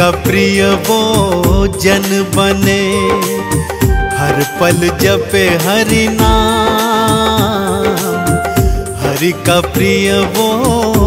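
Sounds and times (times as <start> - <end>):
steady rhythmic beat: 0.0 - 11.0.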